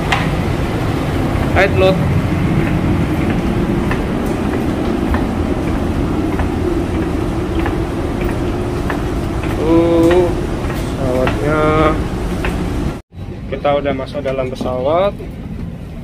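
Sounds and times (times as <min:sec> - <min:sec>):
light footsteps on walkway floor: 0:00.0 - 0:13.0
steady low rumble: 0:00.0 - 0:16.0.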